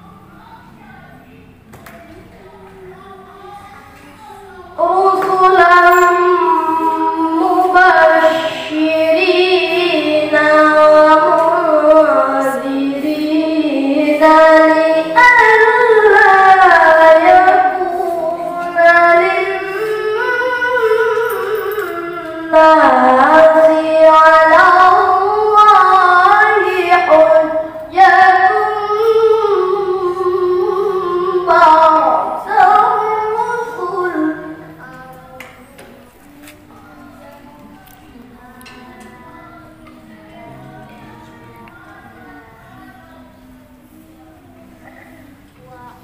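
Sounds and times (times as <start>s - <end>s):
child reciting in melodic chant: 0.0s - 46.0s.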